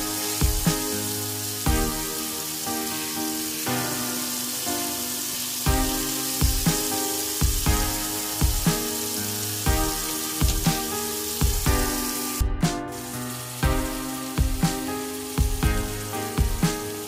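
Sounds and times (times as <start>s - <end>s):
background music with beat: 0.0s - 3.9s, 5.6s - 17.0s
chicken sizzling in frying pan: 0.0s - 17.0s.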